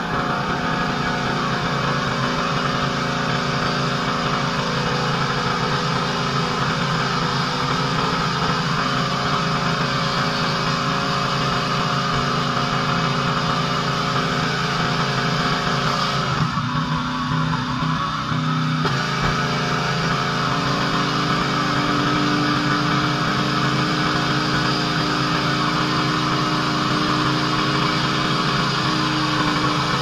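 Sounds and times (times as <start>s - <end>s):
pressure washer engine hum: 0.0s - 17.7s, 18.3s - 30.0s.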